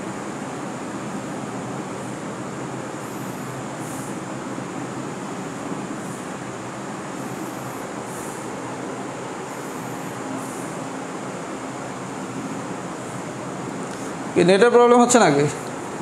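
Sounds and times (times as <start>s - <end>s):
steady hiss and rumble: 0.0s - 16.0s.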